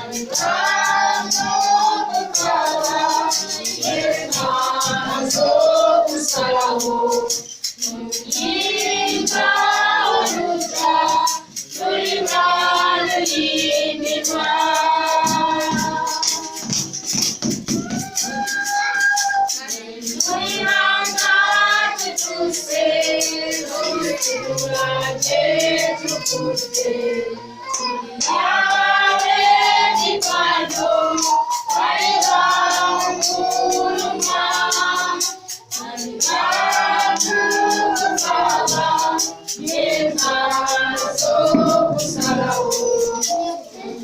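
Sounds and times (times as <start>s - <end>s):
choir singing: 0.0s - 17.1s, 17.9s - 44.0s
shaker beat: 0.0s - 44.0s.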